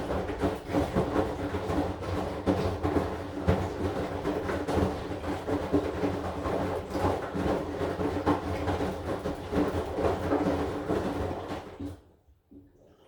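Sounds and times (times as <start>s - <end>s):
washing machine motor hum: 0.0s - 12.2s
laundry and water tumbling: 0.0s - 13.0s.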